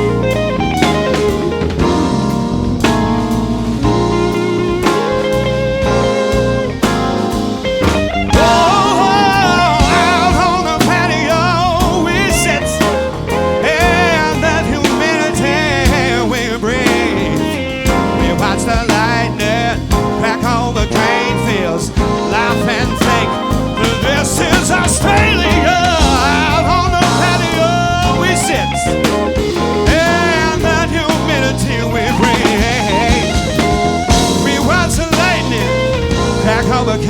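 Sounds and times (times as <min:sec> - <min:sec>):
lead guitar bent notes: 0:00.0 - 0:37.0
live rock band playing: 0:00.0 - 0:37.0.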